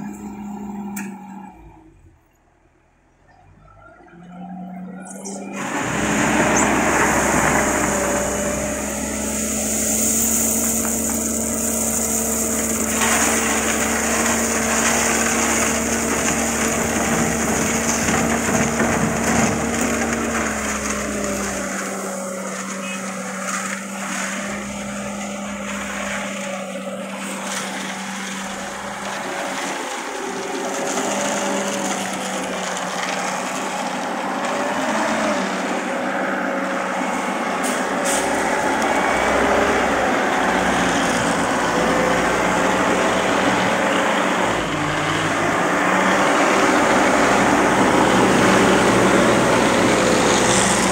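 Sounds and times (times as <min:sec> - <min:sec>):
concrete mixer engine running: 0:00.0 - 0:02.2, 0:03.4 - 0:50.9.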